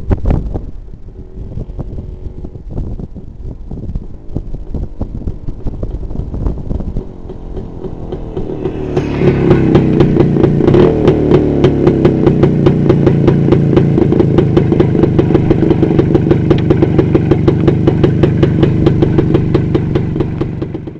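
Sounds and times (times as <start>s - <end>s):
two-stroke motorcycle engine idling: 0.7s - 20.9s.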